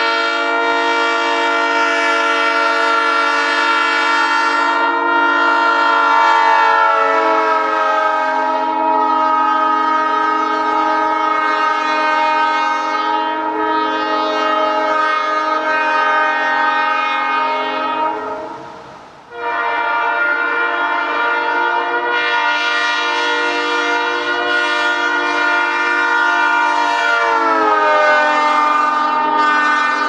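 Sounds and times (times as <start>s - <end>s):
train horn chord: 0.0s - 30.0s.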